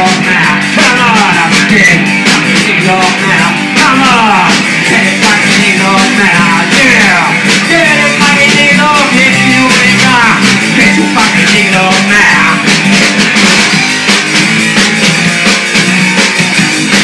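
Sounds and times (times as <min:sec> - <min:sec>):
bass: 0:00.0 - 0:17.0
electric guitar bending notes: 0:00.0 - 0:17.0
steady drum beat: 0:00.0 - 0:17.0.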